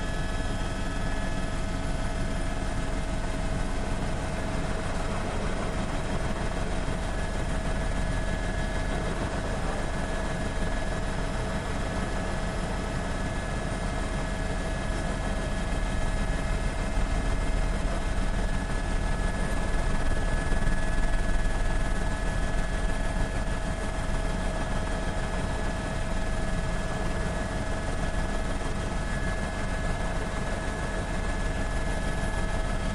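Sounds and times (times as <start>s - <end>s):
helicopter engine and rotor droning: 0.0s - 32.9s.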